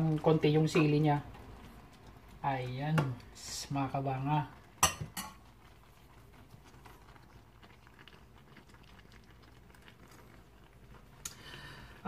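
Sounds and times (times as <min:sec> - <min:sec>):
meat crackling in a frying pan: 0:00.0 - 0:12.0.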